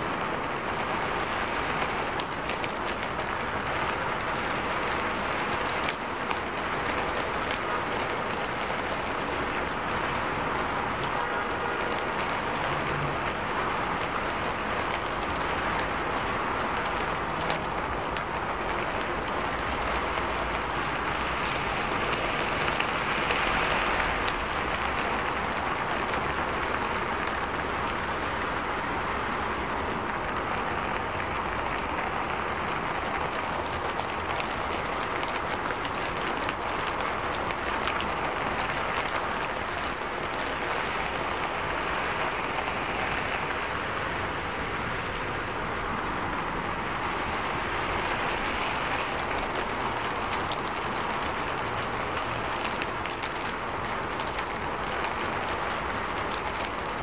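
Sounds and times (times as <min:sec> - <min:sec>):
heavy rain on street: 0:00.0 - 0:57.0.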